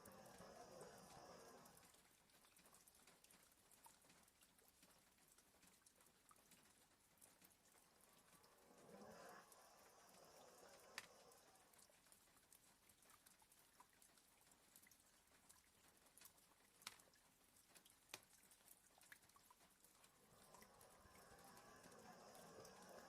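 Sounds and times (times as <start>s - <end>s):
rain tapping on window: 0.0s - 23.0s
soft hiss: 0.0s - 23.0s.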